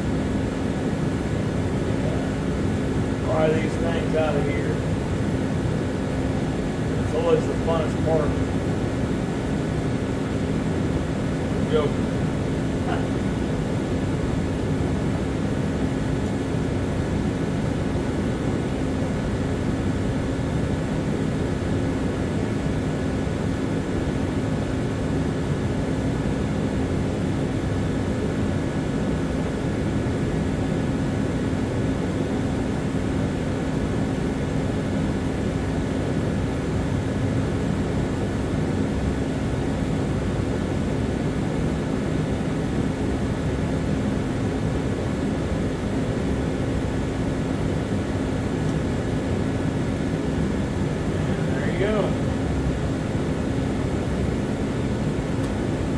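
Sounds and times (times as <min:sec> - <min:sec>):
machine running with low hum: 0:00.0 - 0:55.9.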